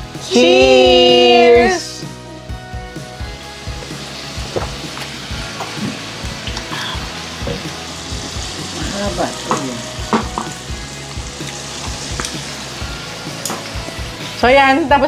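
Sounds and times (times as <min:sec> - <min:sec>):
meat sizzling on a grill pan: 0:00.0 - 0:15.0.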